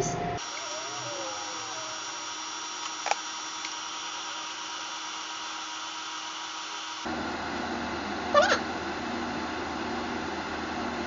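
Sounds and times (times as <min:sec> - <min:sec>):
air fryer fan rushing: 0:00.0 - 0:11.0.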